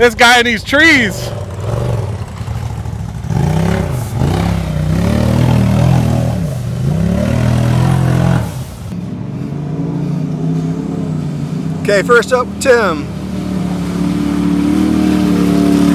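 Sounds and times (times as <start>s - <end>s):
off-road vehicle engine revving: 0.0s - 15.9s.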